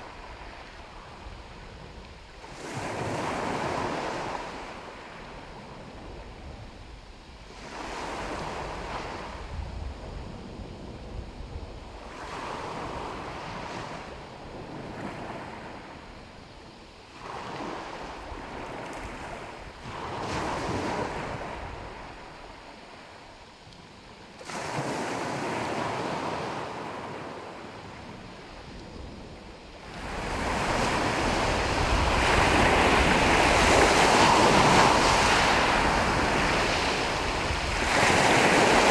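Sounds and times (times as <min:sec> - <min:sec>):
sea waves breaking on shore: 0:00.0 - 0:11.2, 0:12.0 - 0:38.9
wind on microphone: 0:00.0 - 0:16.6, 0:17.2 - 0:23.1, 0:24.4 - 0:38.9.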